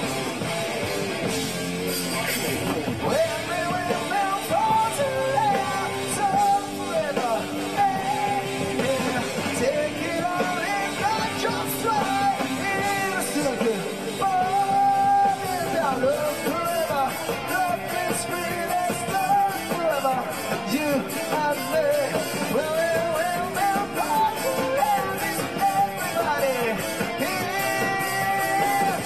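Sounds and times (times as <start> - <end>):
live band playing: 0.0 - 29.0
man singing into a microphone: 3.0 - 29.0.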